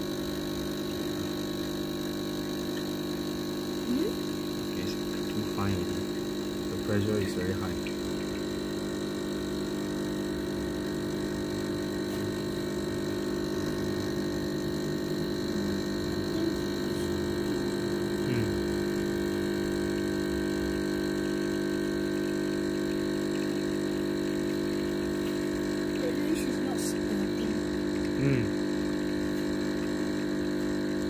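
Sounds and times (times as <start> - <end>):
espresso machine pump humming: 0.0 - 31.0.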